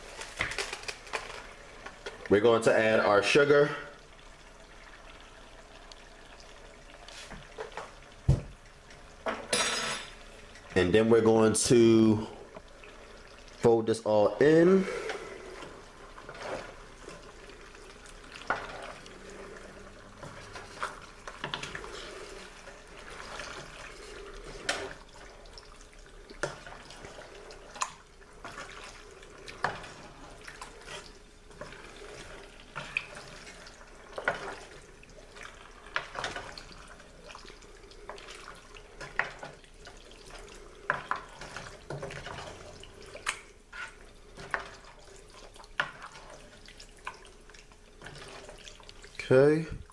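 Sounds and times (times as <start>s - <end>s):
wet squelching stew stirring: 0.0s - 9.5s, 10.1s - 49.9s.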